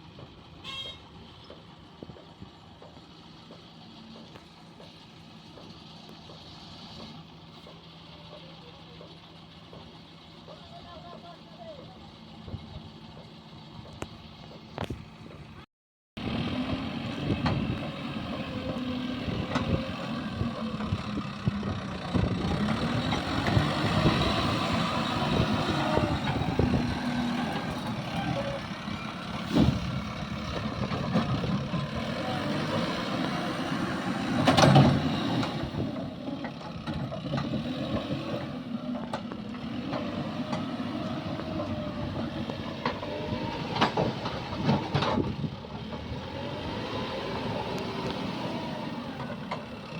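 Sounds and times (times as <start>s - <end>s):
diesel engines revving: 0.0s - 15.6s, 16.2s - 49.9s.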